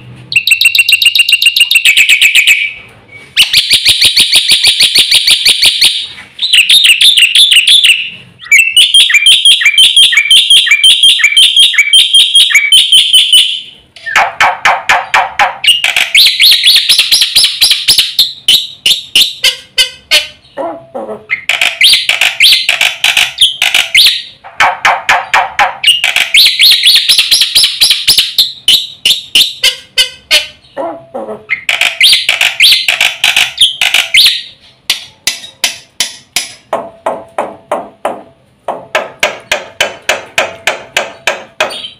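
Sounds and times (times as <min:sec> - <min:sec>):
starling chattering song: 0:00.3 - 0:02.8, 0:03.4 - 0:35.8.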